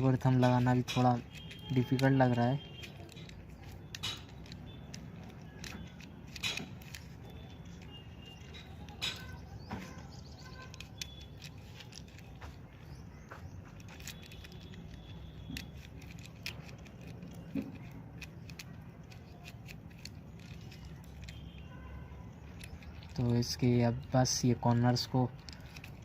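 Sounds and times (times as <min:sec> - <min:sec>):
puzzle cube clicking and rattling: 0:00.0 - 0:26.0.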